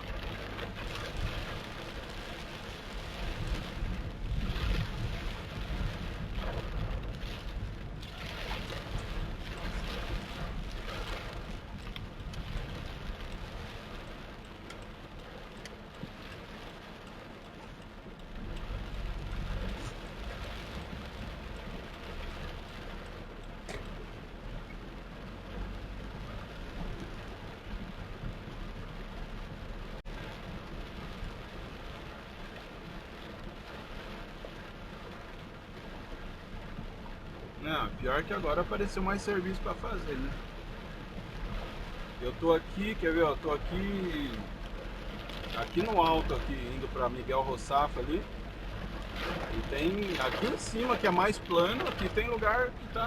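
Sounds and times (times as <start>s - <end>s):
low rumble: 0.0s - 14.5s, 18.0s - 34.2s, 34.8s - 53.0s
torrential rain: 0.0s - 53.0s.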